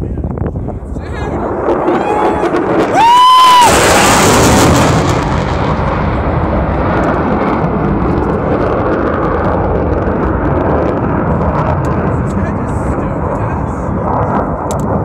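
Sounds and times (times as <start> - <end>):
fighter jet flying overhead: 0.1 - 15.0.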